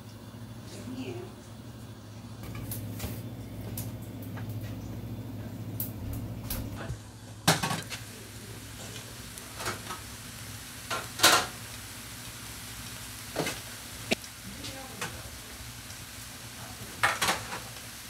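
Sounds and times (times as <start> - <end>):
low steady hum: 0.0 - 16.9.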